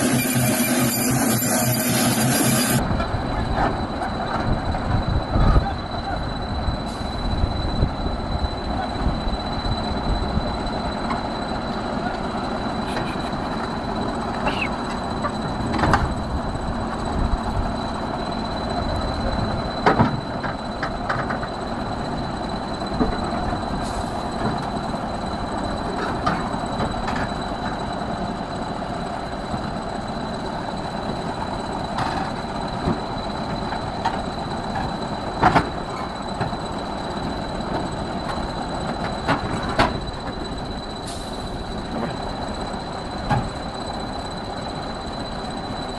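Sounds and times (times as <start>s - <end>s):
heavy mechanical rumble: 0.0s - 45.9s
thin high whine: 0.0s - 45.9s.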